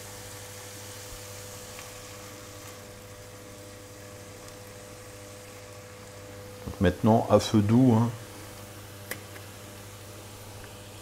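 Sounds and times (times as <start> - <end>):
faint hum with steady tone: 0.0 - 11.0.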